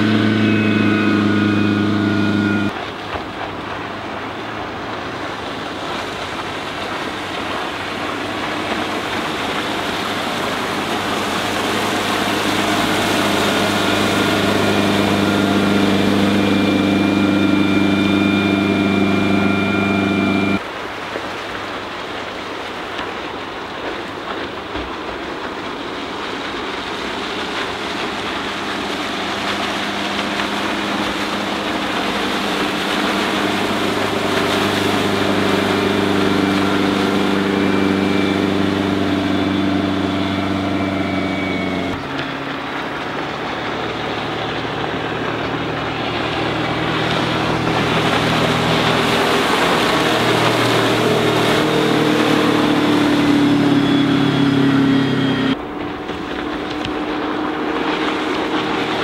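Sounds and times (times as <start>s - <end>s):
boat engine drone: 0.0s - 22.8s, 23.8s - 59.0s.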